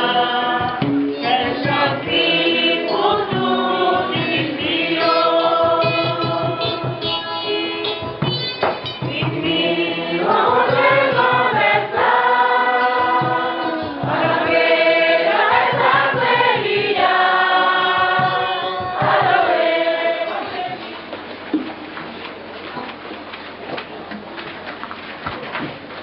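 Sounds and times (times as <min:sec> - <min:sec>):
congregation singing a hymn: 0:00.0 - 0:21.2.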